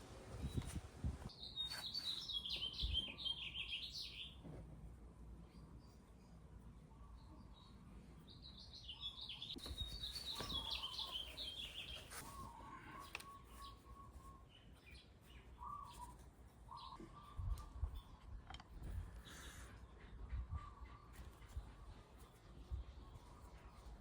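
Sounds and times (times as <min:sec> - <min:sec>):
songbird chirping: 0:00.4 - 0:04.4, 0:05.4 - 0:24.0.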